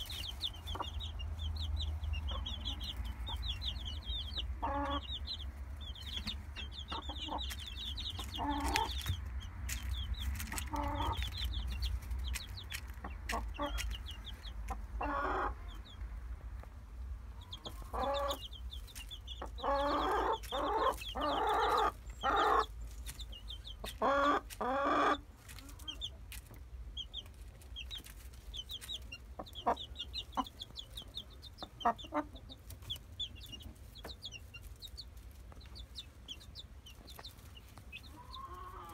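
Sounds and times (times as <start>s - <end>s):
hen clucking: 0.0s - 16.7s, 17.3s - 38.9s
chicks peeping: 0.0s - 38.9s.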